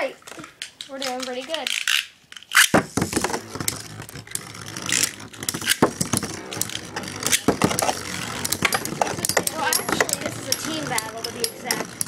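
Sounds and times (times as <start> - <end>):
spinning tops clattering: 1.0 - 12.0
spinning tops landing clack: 1.1 - 12.0.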